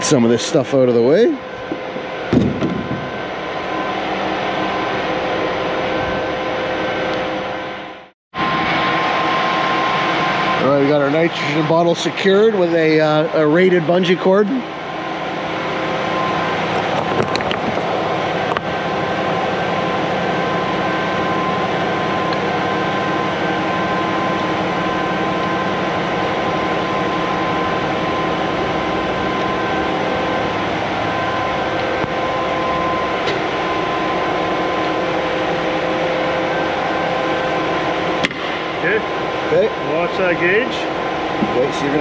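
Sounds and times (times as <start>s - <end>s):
steady machine drone with tones: 0.0s - 42.0s.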